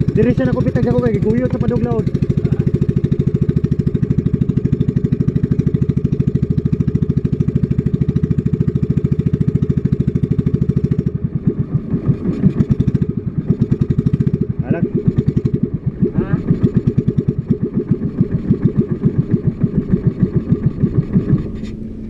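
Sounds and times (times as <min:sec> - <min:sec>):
boat engine putter: 0:00.0 - 0:22.0.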